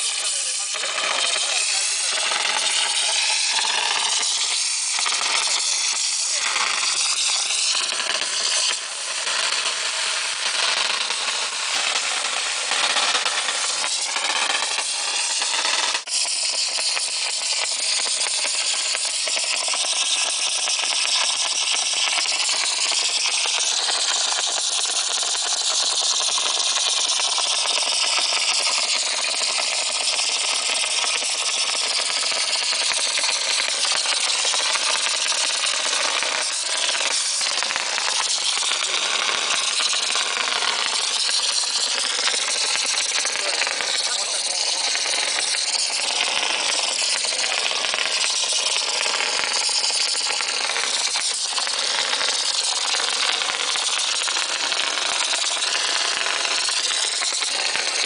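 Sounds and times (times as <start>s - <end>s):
pump running with hiss: 0.0s - 58.0s.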